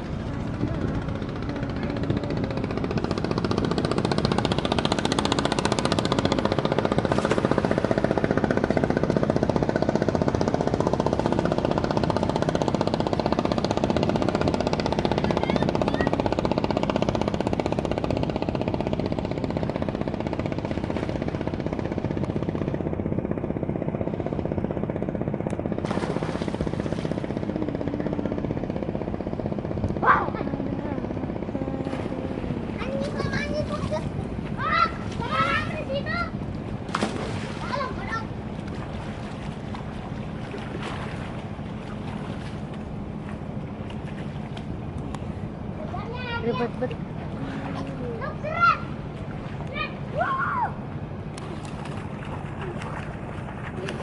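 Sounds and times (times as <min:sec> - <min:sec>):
boat engine knocking: 0:00.0 - 0:54.0.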